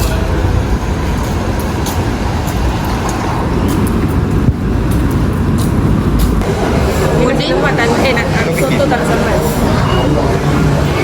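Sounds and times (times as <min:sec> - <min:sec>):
vehicle road and engine rumble: 0:00.0 - 0:11.0.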